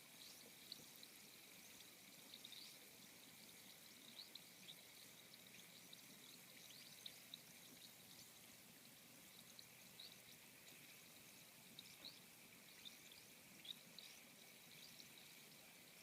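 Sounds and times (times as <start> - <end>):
faint fizzing of soda bubbles: 0.0 - 16.0.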